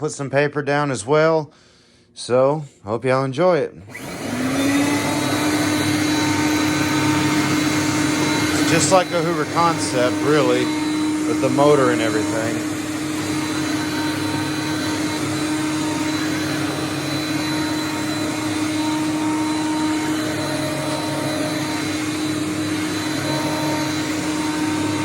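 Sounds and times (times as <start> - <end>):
vacuum cleaner running: 3.8 - 25.0.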